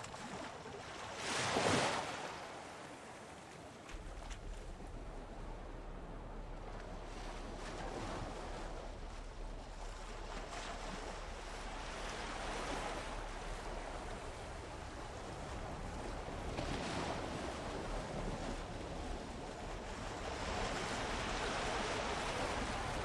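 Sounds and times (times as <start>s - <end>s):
water splashing along boat hull: 0.0s - 23.0s
wind on microphone: 3.9s - 23.0s.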